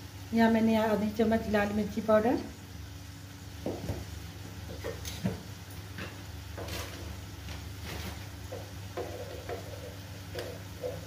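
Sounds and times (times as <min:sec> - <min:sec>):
tomatoes frying in oil: 0:00.0 - 0:11.0.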